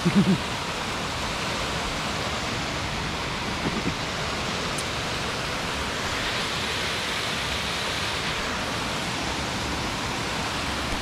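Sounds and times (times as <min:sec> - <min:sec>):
river and waterfall rushing: 0:00.0 - 0:11.0.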